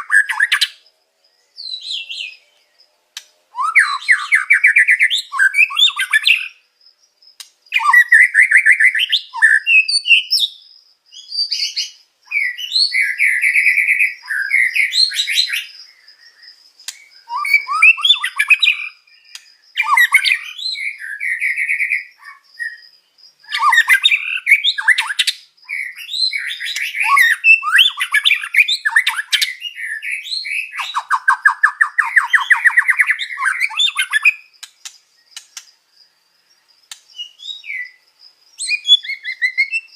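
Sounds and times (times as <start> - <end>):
songbird singing with trills: 0.0 - 39.9.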